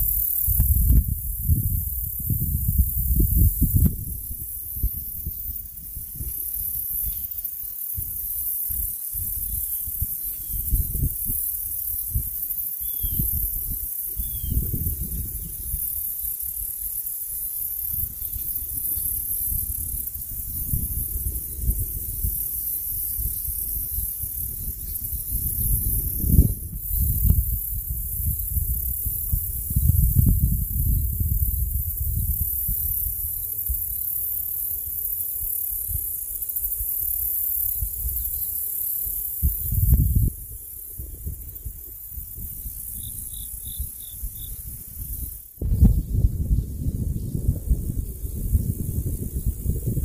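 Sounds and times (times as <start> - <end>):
wind buffeting microphone: 0.0 - 7.3, 8.0 - 16.8, 17.6 - 33.9, 39.3 - 50.0
steady high hiss: 0.0 - 50.0.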